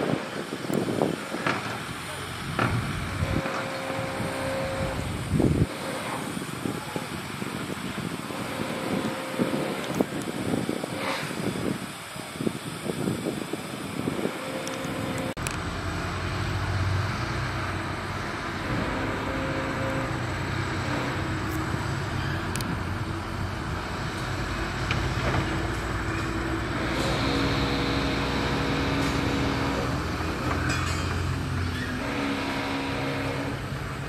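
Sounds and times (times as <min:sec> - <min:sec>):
diesel engine of heavy machinery: 0:00.0 - 0:34.0.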